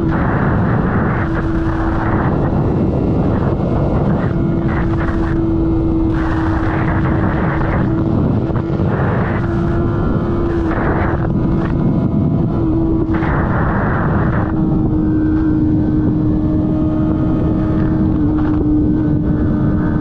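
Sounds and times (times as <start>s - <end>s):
vehicle engine at high revs: 0.0s - 20.0s.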